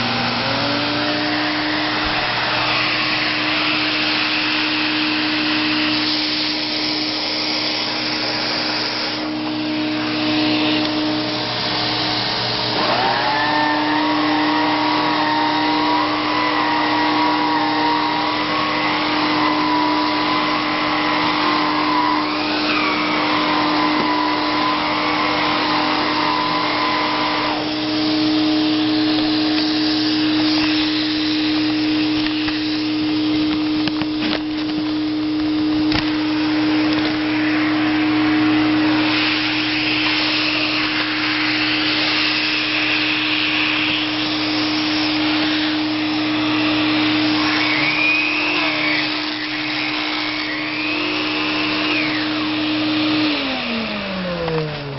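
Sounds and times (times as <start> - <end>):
air whistles: 0.0 - 54.9
vacuum cleaner running: 0.0 - 54.9.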